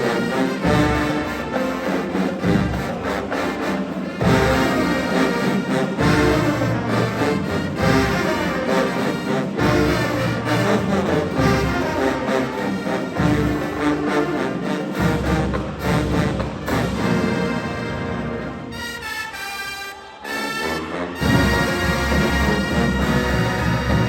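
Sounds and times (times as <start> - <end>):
brass section chords: 0.0 - 24.0.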